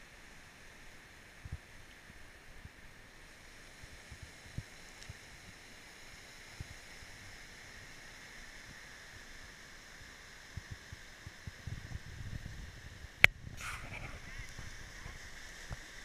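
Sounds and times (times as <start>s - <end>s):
small waves washing onto shore: 0.0s - 16.0s.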